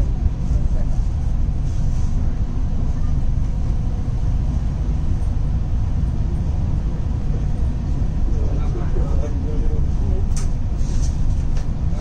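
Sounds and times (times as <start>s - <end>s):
train rumble from inside coach: 0.0s - 12.0s.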